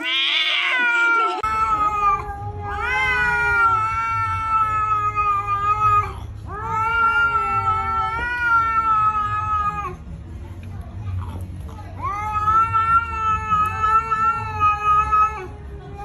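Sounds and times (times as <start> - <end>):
cat yowling: 0.0 - 10.0, 12.0 - 16.0.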